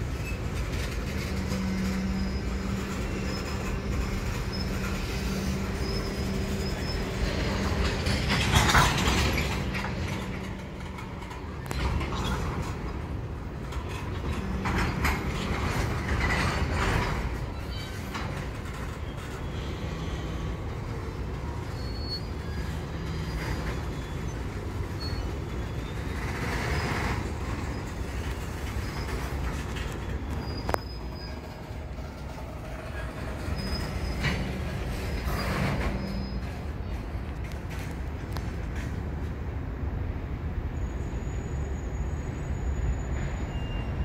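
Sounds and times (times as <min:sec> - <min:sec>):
wheel squeals: 0:00.0 - 0:39.0, 0:40.7 - 0:44.0
train wheels rumbling on rail: 0:00.0 - 0:44.0.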